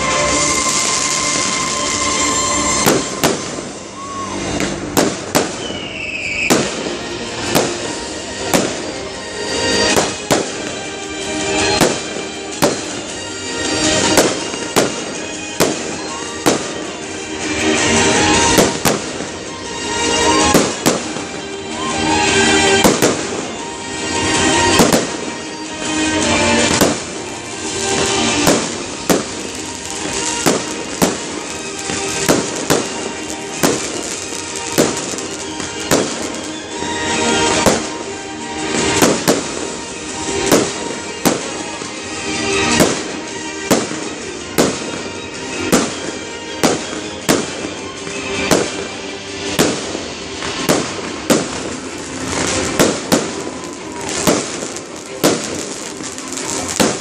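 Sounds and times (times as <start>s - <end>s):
fireworks bursting: 0.0s - 57.0s
music playing: 0.0s - 57.0s.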